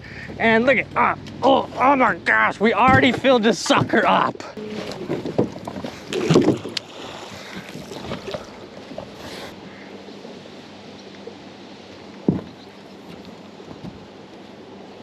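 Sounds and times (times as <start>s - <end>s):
water: 0.0s - 15.0s
wind: 0.0s - 15.0s.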